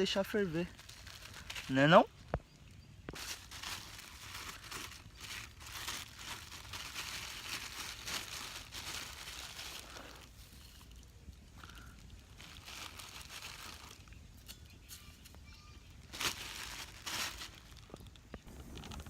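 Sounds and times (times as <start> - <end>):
leaves crumpled and torn by hand: 0.0 - 2.4, 3.1 - 19.0.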